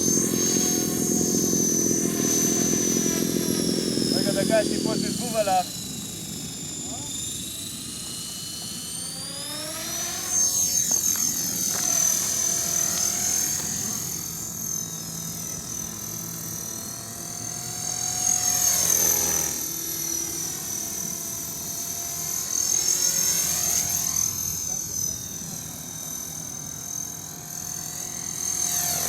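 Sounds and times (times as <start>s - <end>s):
model helicopter rotor whine: 0.0s - 29.0s.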